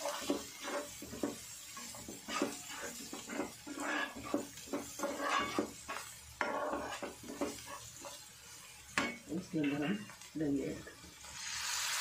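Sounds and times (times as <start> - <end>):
spatula scraping frying pan: 0.0 - 12.0.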